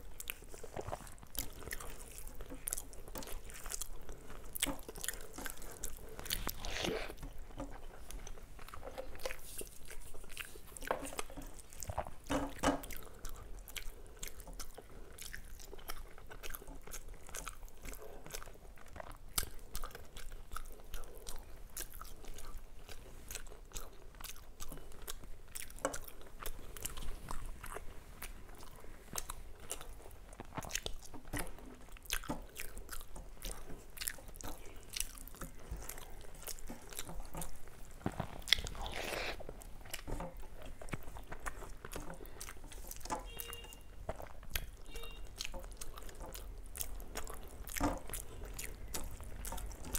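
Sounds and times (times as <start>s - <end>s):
person chewing food: 0.0s - 49.9s.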